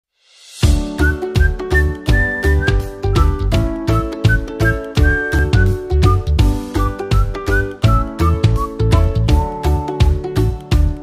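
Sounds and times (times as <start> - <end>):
upbeat whistle melody music: 0.6 - 11.0.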